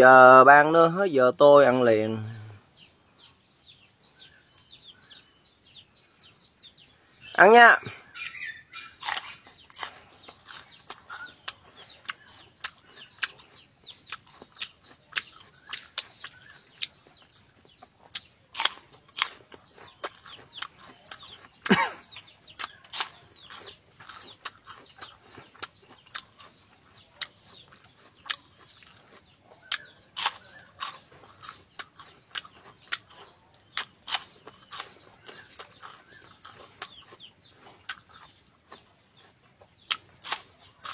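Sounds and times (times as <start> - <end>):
crunchy chewing: 7.8 - 40.9.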